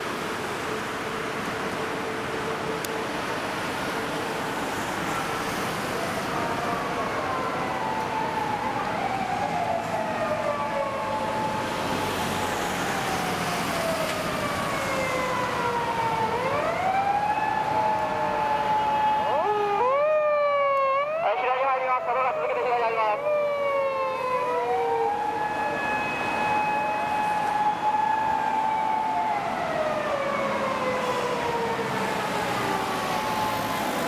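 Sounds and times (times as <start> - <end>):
city traffic noise: 0.0 - 34.0
police sirens wailing: 1.1 - 34.0.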